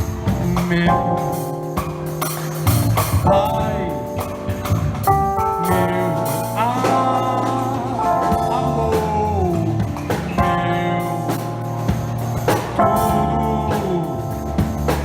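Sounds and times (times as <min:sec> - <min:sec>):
band playing worship song: 0:00.0 - 0:15.0
drum kit: 0:00.0 - 0:15.0
sustained melodic notes: 0:00.0 - 0:15.0.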